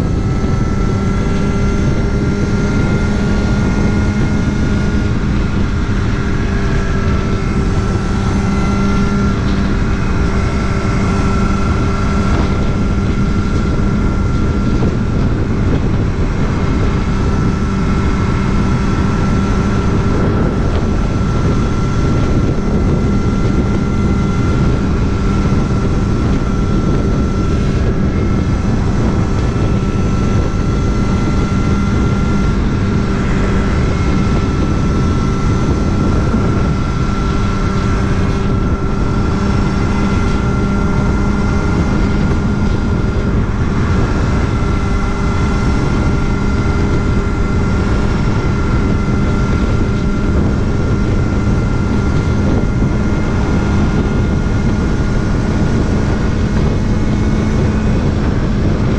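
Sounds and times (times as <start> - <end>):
motorcycle engine running: 0.0 - 58.9
wind noise: 0.0 - 58.9.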